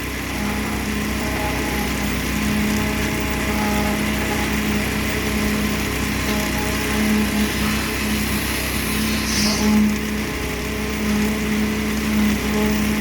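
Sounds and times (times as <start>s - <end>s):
construction machinery engine drone: 0.0s - 13.0s.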